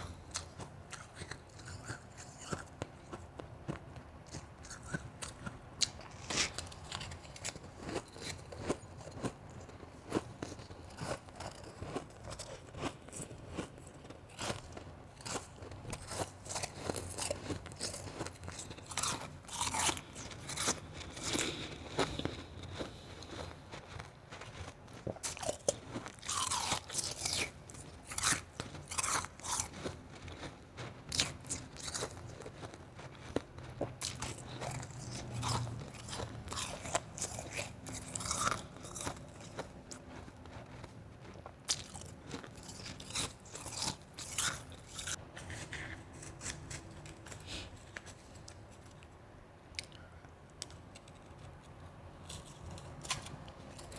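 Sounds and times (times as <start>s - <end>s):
crunchy ice chewing: 0.0s - 49.1s, 49.7s - 53.9s.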